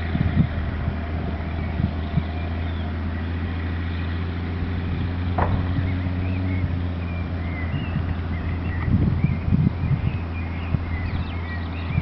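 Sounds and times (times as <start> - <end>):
gulls calling: 0.0 - 12.0
tractor diesel engine running: 0.0 - 12.0.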